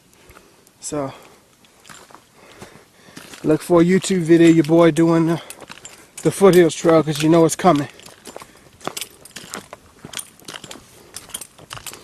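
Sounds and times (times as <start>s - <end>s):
footsteps scuffing on trail: 1.6s - 12.0s.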